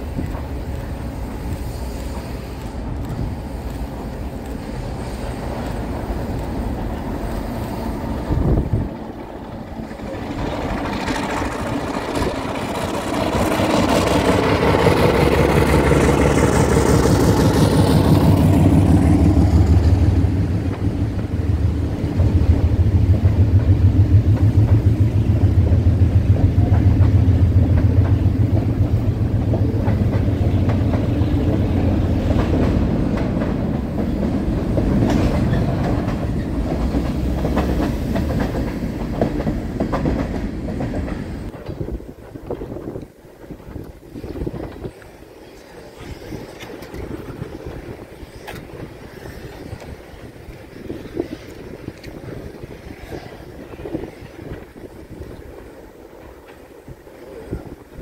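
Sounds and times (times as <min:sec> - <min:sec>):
diesel locomotive engine: 0:00.0 - 0:58.0
freight cars rolling rumble: 0:00.0 - 0:58.0.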